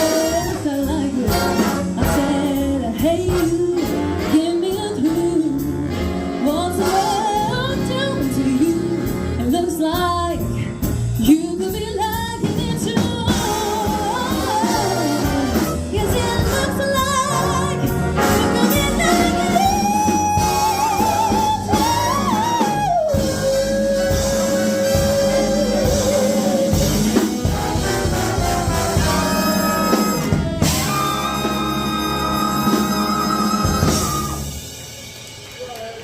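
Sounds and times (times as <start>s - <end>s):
woman singing with vibrato: 0.0s - 10.6s, 11.2s - 27.5s, 29.0s - 34.5s
big band jazz: 0.0s - 36.0s.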